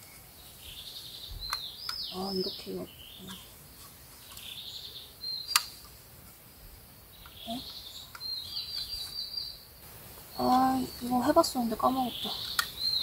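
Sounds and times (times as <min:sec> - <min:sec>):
forest birds whistling: 0:00.0 - 0:05.9, 0:06.8 - 0:13.0.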